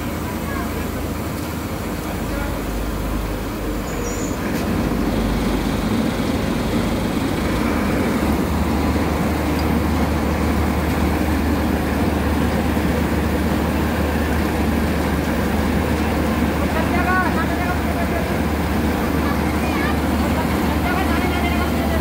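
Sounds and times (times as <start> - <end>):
harvester engine idling: 0.0 - 22.0.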